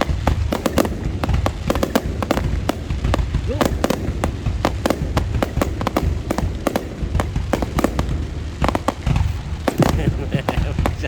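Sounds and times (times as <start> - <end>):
fireworks cracking: 0.0 - 11.0
low rumble: 0.0 - 11.0.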